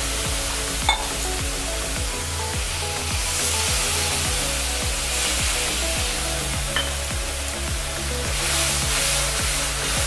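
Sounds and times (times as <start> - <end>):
background music with beat: 0.0 - 10.0
spice paste sizzling in oil: 0.0 - 10.0.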